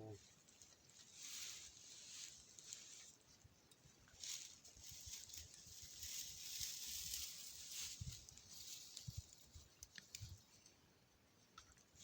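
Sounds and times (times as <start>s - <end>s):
small campfire hissing and crackling: 0.0s - 10.8s.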